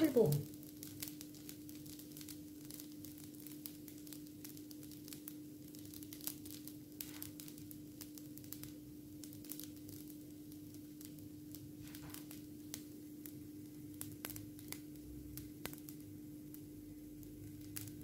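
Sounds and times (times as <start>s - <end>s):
batter crackling in a pan: 0.0s - 18.0s.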